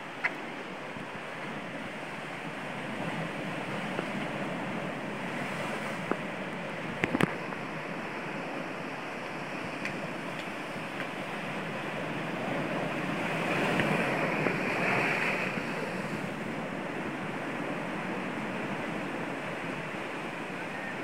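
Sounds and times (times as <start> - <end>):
wave crashing: 0.0 - 21.0
waves washing over rocks: 0.0 - 21.0.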